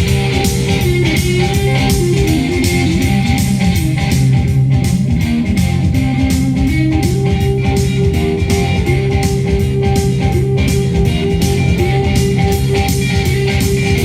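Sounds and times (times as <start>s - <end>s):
guitar rock song from cassette: 0.0s - 14.0s.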